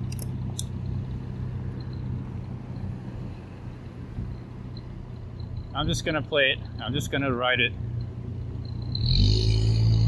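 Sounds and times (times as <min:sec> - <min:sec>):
road and traffic rumble: 0:00.0 - 0:10.0.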